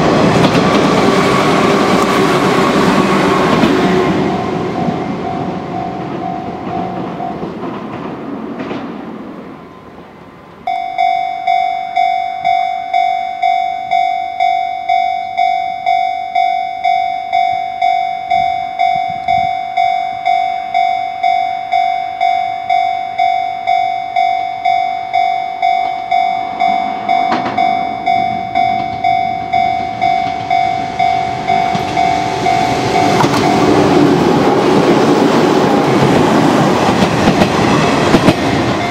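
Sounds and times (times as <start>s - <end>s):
level-crossing warning bell: 0.0s - 7.8s, 10.6s - 38.9s
departing train: 0.0s - 38.9s
electric train passing: 0.0s - 38.9s.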